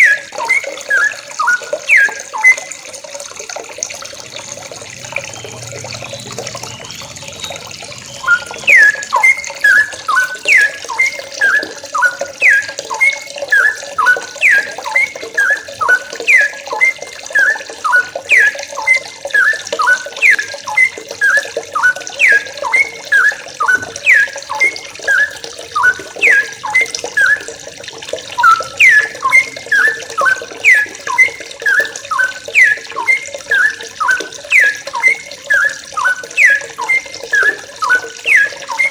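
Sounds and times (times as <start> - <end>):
bulbuls calling: 0.0 - 2.7, 4.8 - 38.9
running water: 0.0 - 38.9.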